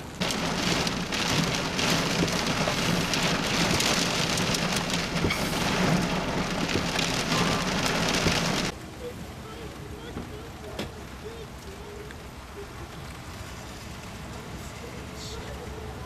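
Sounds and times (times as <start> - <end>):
heavy rain drumming on car roof: 0.0 - 16.0.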